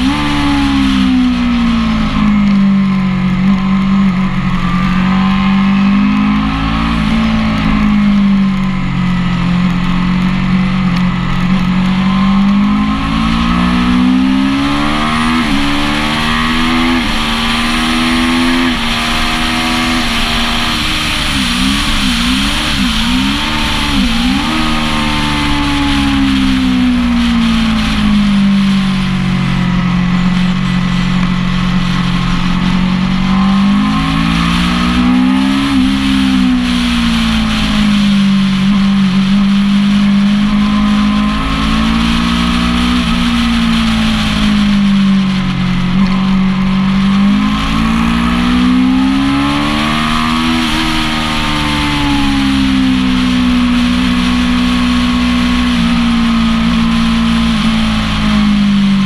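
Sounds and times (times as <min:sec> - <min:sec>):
motorcycle engine racing: 0:00.0 - 0:59.0
wind rush on microphone: 0:00.0 - 0:59.0.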